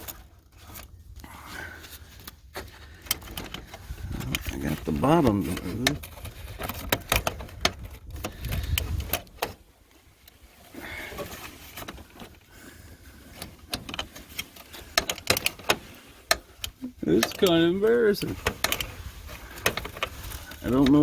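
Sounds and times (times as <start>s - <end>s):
copier parts clicking and rattling: 2.1s - 9.8s, 10.7s - 21.0s.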